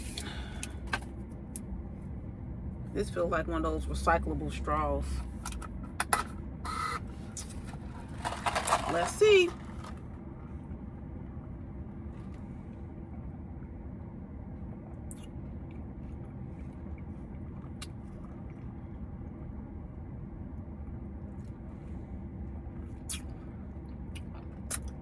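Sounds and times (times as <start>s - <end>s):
car cabin hum: 0.0s - 25.0s.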